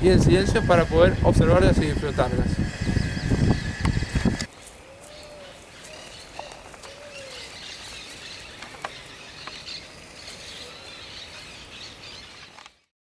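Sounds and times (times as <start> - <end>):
steady outdoor hiss: 0.0 - 12.8
wild birds calling and chirping: 0.0 - 12.8.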